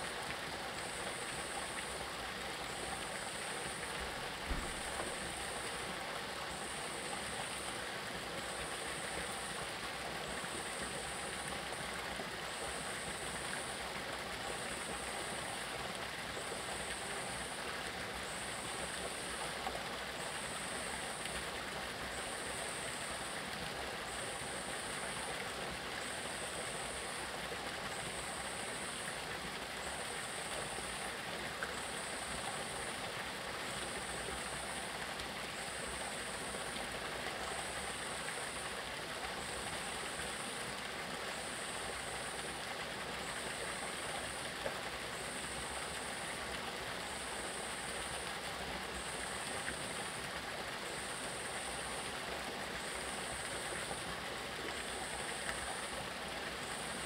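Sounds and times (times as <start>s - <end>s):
mountain stream rushing: 0.0s - 13.8s, 16.3s - 57.0s.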